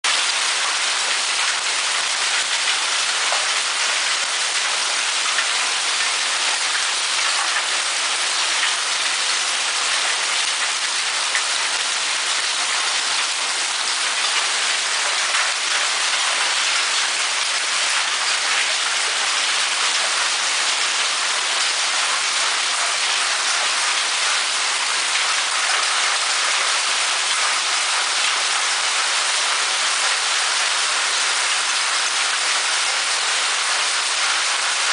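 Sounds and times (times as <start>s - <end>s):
hail and rain pelting down: 0.1s - 34.9s.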